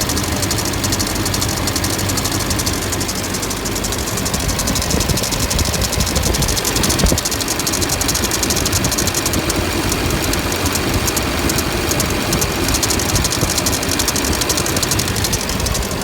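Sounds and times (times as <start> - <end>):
diesel engine idling: 0.0 - 16.0
rapid engine ticking: 0.0 - 16.0.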